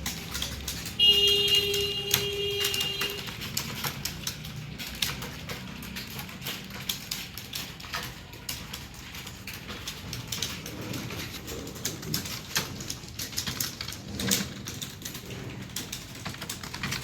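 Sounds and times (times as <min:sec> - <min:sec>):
fast keyboard typing: 0:00.0 - 0:17.0.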